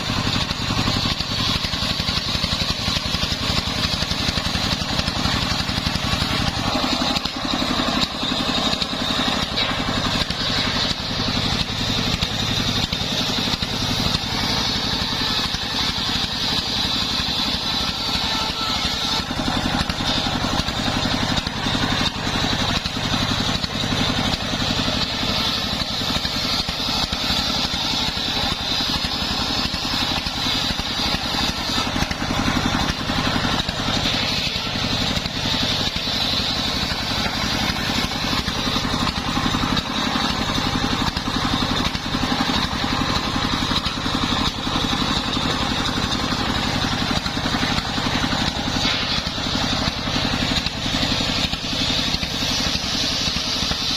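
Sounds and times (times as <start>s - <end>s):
circular saw whine: 0.0s - 53.9s
engine drone: 0.0s - 53.9s.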